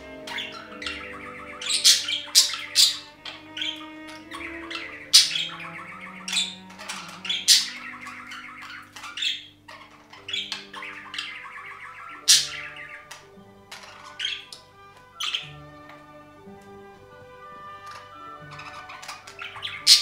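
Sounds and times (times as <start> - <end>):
bird squawks: 0.0 - 16.4, 17.0 - 20.0
budgerigars chattering: 0.0 - 16.4, 17.0 - 20.0
soft background music: 0.0 - 20.0.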